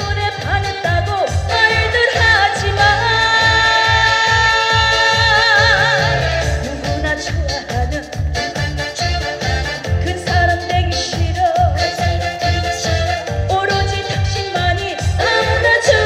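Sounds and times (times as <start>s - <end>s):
backing track with steady beat: 0.0s - 16.0s
person singing live: 0.0s - 16.0s.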